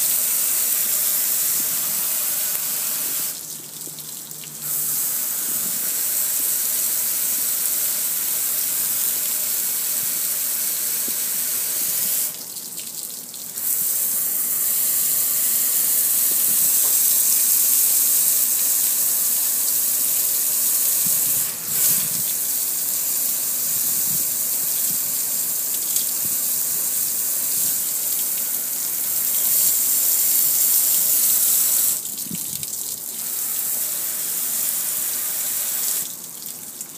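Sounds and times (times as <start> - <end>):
water splashing on metal and concrete: 0.0 - 36.9
water spraying from a hose: 0.0 - 36.9.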